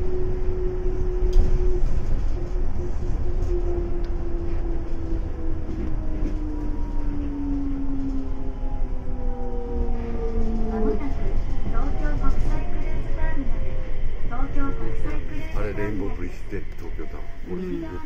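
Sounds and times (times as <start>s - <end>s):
train running low rumble: 0.0s - 18.0s.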